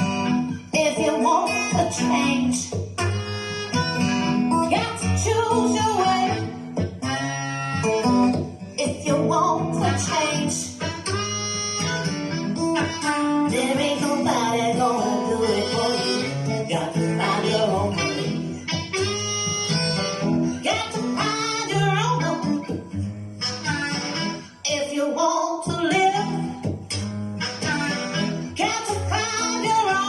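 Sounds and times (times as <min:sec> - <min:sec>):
song with singing and guitar: 0:00.0 - 0:30.0.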